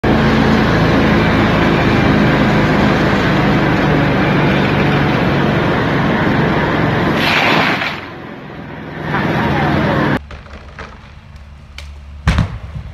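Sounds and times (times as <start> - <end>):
petrol engine running at high speed: 0.0 - 12.3.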